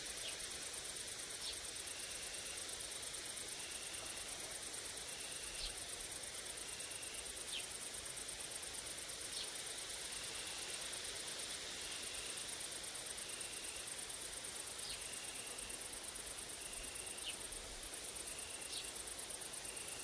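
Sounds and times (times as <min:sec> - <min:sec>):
grasshoppers and crickets chirring: 0:00.0 - 0:20.0.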